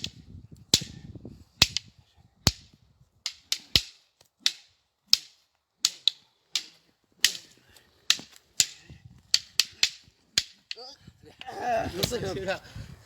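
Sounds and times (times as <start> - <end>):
wooden sticks clacking: 0.0 - 1.0, 1.6 - 12.2.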